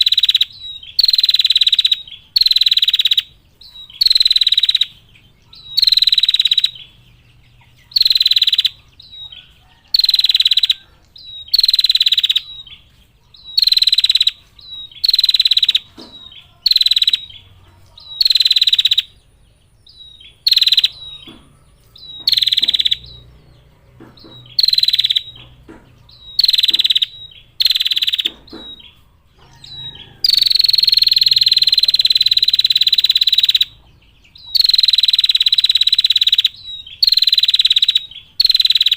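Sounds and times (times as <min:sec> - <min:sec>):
bird trilling call: 0:00.0 - 0:38.9.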